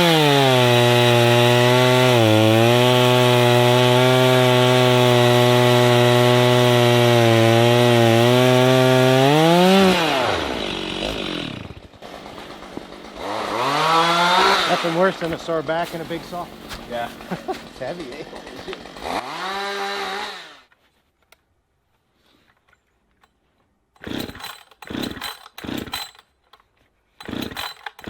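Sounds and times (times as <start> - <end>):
chainsaw cutting wood: 0.0 - 20.7, 24.0 - 28.0.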